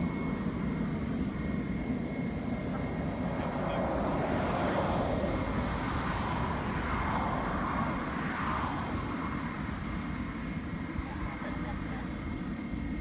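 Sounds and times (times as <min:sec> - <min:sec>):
jet engines rumbling with whine: 0:00.0 - 0:13.0.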